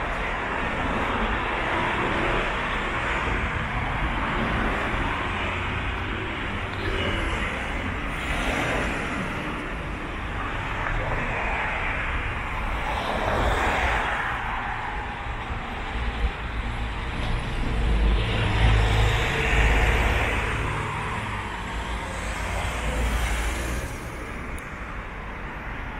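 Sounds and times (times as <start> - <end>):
vehicles passing: 0.0 - 25.9.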